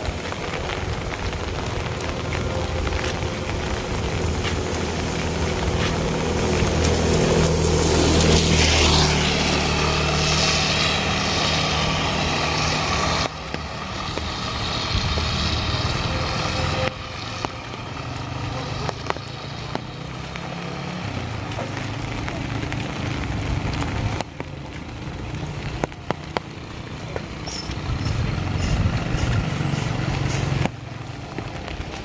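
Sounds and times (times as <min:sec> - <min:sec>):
rain hiss: 0:00.0 - 0:32.0
vehicle engine running: 0:00.0 - 0:32.0.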